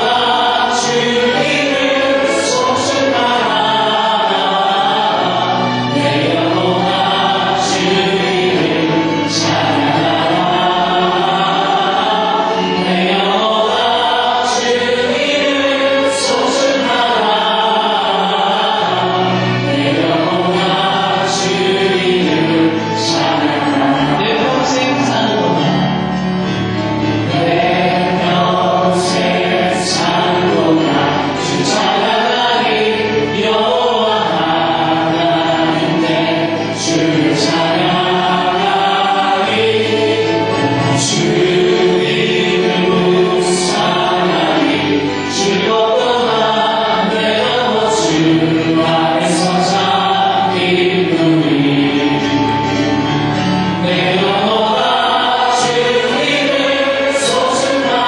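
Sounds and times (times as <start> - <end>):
group singing gospel song: 0.0 - 58.0.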